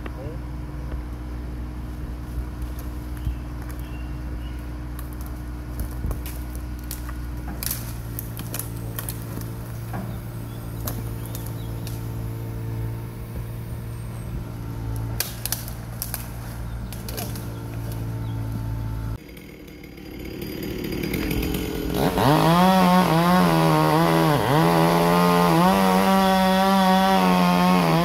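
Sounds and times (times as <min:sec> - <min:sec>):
engine humming: 0:00.0 - 0:28.0
branches snapping: 0:02.2 - 0:13.4, 0:14.5 - 0:19.2, 0:20.9 - 0:28.0.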